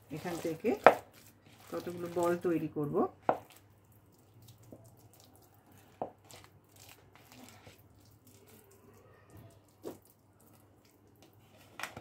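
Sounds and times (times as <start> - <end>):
hands squishing food mixture: 0.0 - 12.0.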